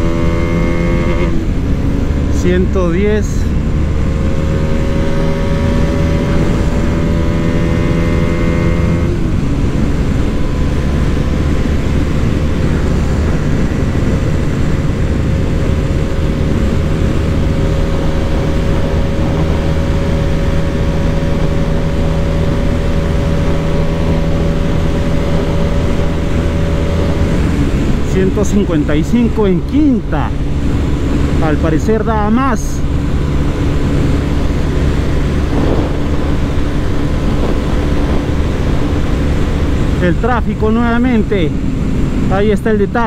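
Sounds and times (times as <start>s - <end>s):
motorcycle engine accelerating: 0.0s - 43.0s
wind rush: 0.0s - 43.0s.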